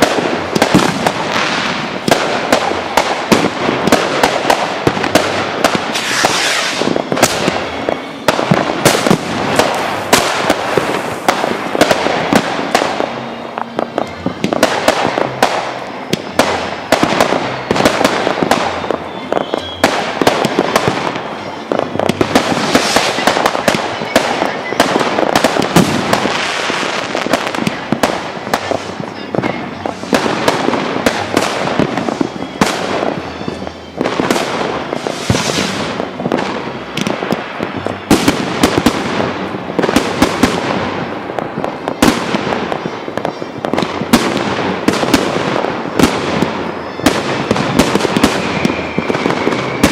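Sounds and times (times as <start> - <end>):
fireworks bangs and crackling: 0.0 - 49.9.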